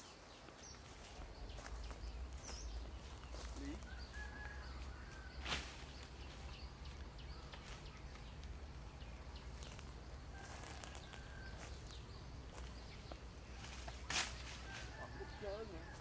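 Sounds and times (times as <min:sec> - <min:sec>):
small ticks and rustles: 0:00.3 - 0:15.4.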